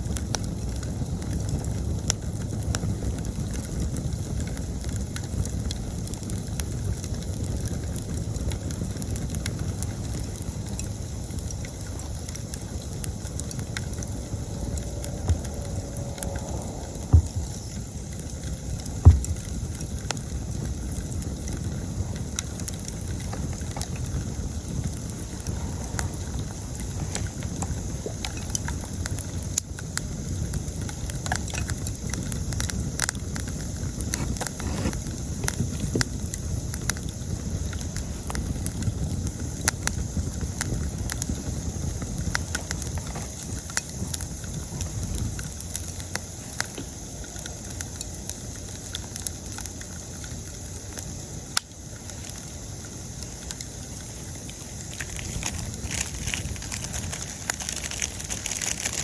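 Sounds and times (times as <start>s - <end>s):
campfire crackling and popping: 0.0s - 59.0s
insects chirping: 8.2s - 59.0s.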